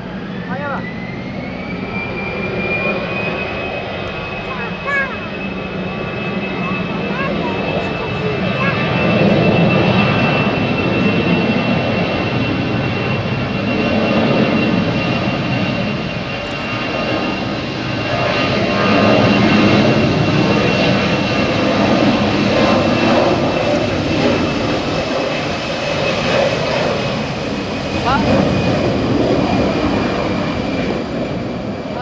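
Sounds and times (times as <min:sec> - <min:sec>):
high engine whine: 0:00.0 - 0:32.0
jet engines roaring at takeoff: 0:00.0 - 0:32.0.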